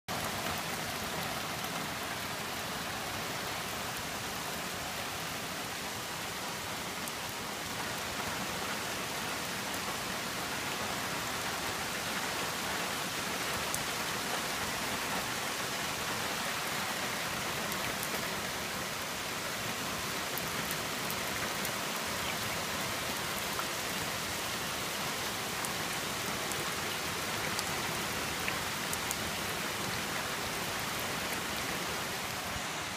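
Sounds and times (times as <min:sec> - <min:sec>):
rain on leaves and roof: 0:00.1 - 0:32.9.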